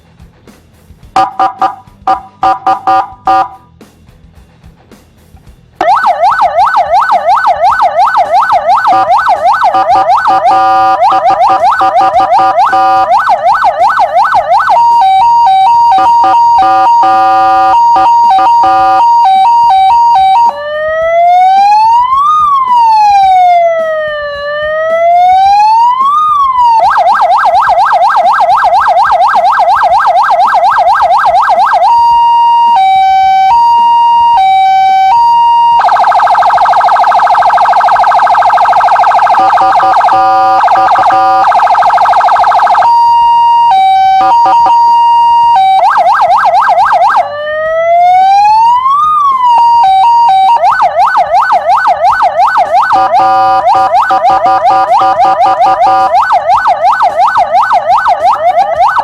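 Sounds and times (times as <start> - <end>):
electronic siren switching tones: 1.2 - 3.5, 5.8 - 59.0.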